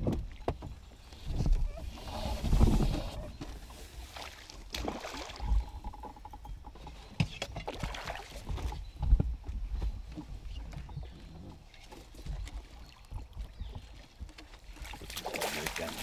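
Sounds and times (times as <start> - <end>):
water sloshing: 0.3 - 6.4, 7.3 - 8.9, 10.3 - 16.0.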